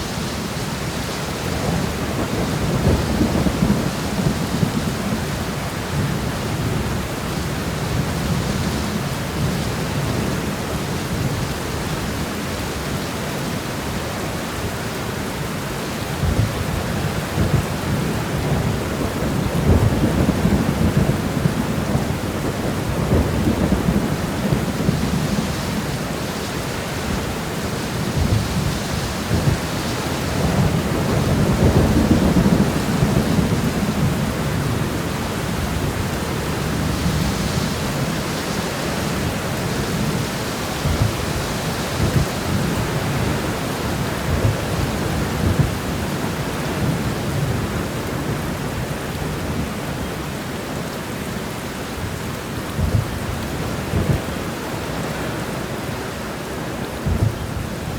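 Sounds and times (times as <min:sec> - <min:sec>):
thunder rumbling: 0:00.0 - 0:12.9, 0:16.0 - 0:49.9, 0:51.9 - 0:57.9
rain shower: 0:00.0 - 0:57.9.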